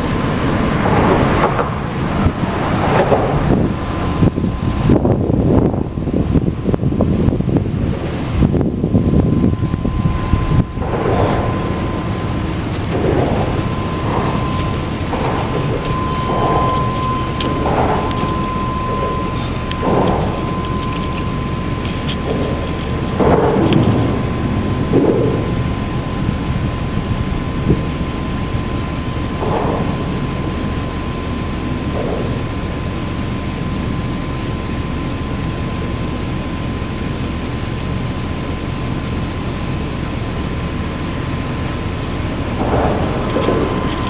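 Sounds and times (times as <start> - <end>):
rain: 0.0 - 6.8, 10.1 - 44.0
thunder rumbling: 0.0 - 33.7, 40.8 - 44.0
faint high whine: 0.0 - 37.6.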